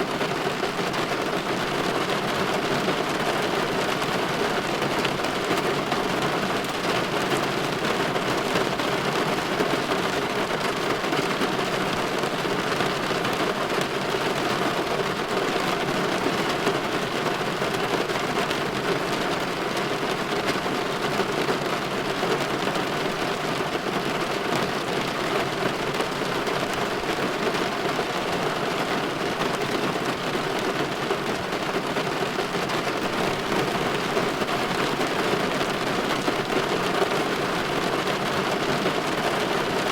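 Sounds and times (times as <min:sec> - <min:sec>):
rain on window glass: 0:00.0 - 0:39.9.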